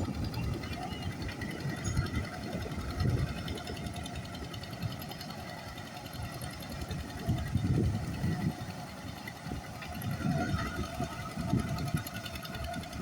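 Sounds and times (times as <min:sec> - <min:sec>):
machine engine chattering: 0:00.0 - 0:13.0.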